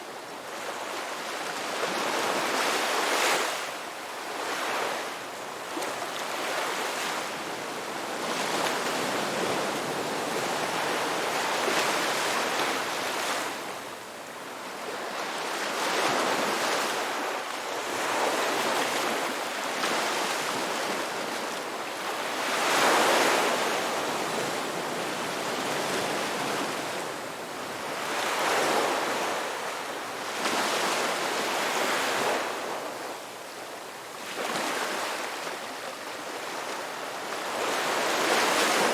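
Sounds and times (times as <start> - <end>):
ocean waves washing onto beach: 0.0 - 38.9.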